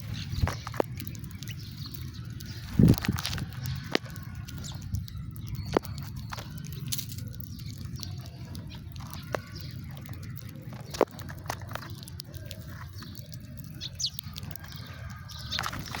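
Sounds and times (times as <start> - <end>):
sharp clicks: 0.0 - 16.0
sparrows chirping faintly: 0.0 - 16.0.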